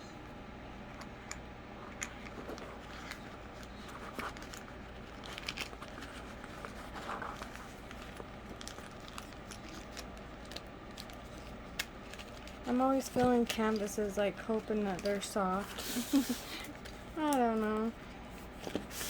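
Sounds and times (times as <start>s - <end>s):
steady low hum: 0.0s - 19.0s
packaging crinkling and rustling: 2.1s - 19.0s.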